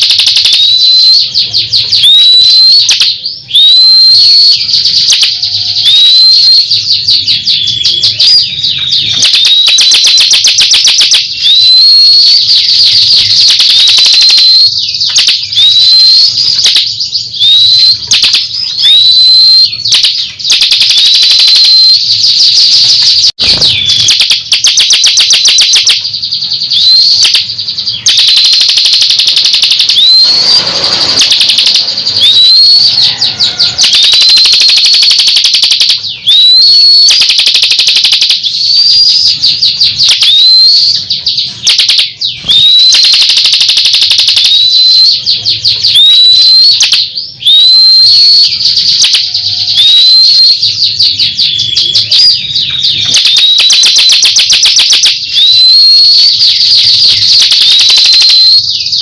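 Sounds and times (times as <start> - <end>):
songbird singing whistles and trills: 0.0 - 59.0.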